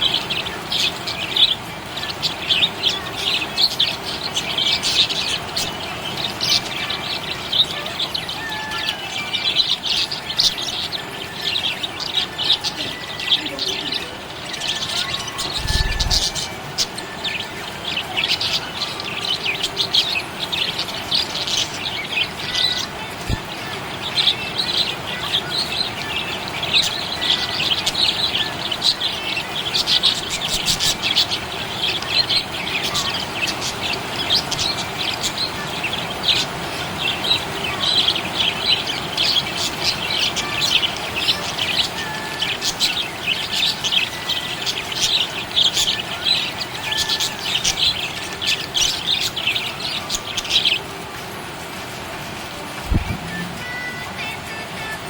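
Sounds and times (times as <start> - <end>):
budgerigars chirping and warbling: 0.0 - 55.0.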